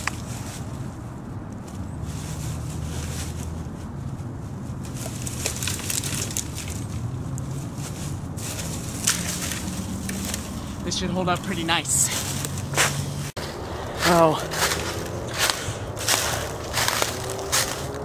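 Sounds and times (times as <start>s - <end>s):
dry branches rustling and crackling: 0.0s - 18.0s
steady low rumble: 0.0s - 18.0s.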